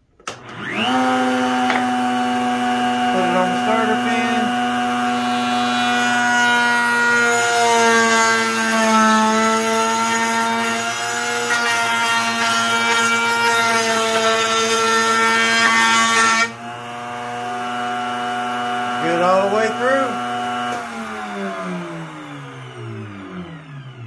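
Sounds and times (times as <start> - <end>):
router bit cutting wood: 0.2 - 24.0
router motor whining: 0.2 - 24.0.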